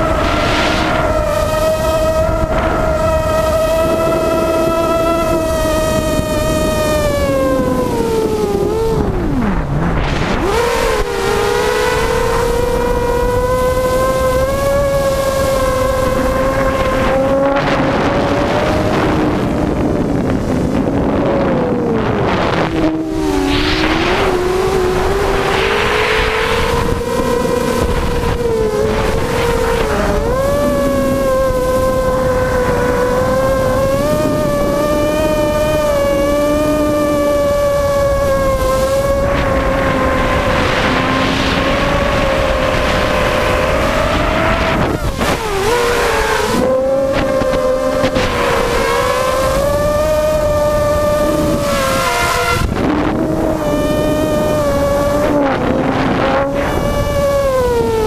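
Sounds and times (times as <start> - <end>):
drone motors whining: 0.0 - 58.0
wind buffeting microphone: 0.0 - 58.0.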